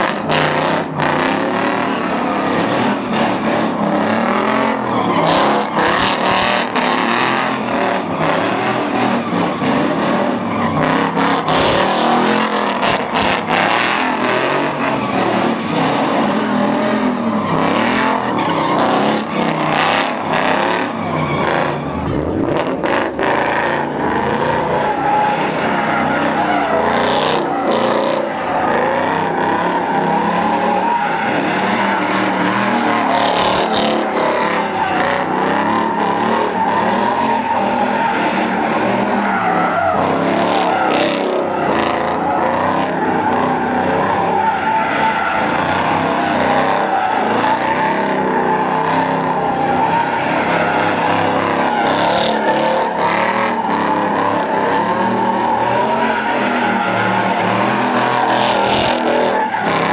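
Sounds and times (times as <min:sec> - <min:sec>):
car engine revving: 0:00.0 - 0:59.9
tires squealing on asphalt: 0:00.0 - 0:59.9.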